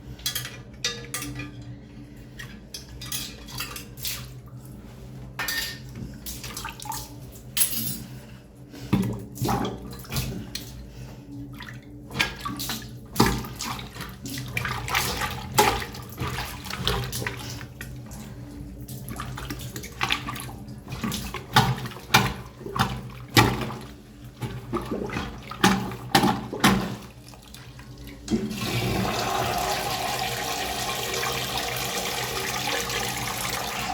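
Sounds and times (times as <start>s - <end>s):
water sloshing in urinal: 5.8s - 33.9s.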